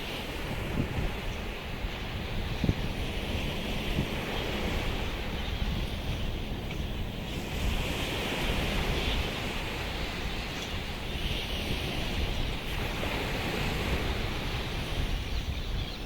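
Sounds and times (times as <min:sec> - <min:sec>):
surf washing ashore: 0:00.0 - 0:15.5
wind buffeting microphone: 0:00.0 - 0:16.0.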